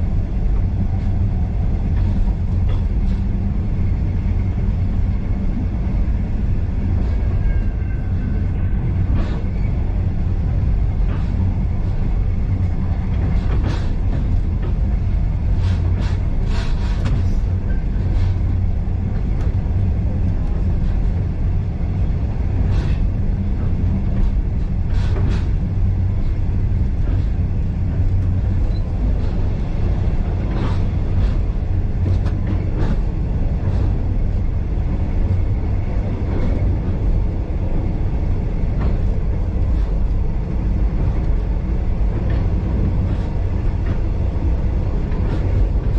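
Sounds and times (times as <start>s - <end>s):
train carriage rumble: 0.0s - 45.9s.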